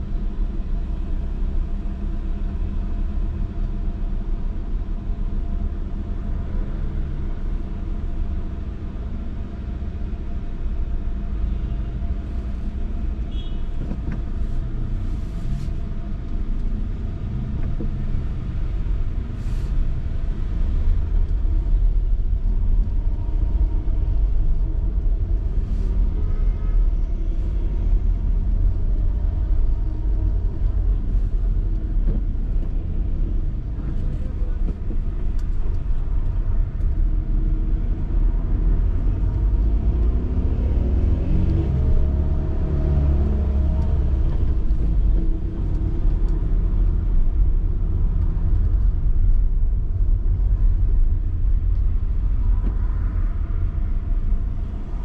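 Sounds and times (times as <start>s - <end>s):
car engine and road noise: 0.0s - 55.0s
surrounding traffic sounds: 0.0s - 55.0s.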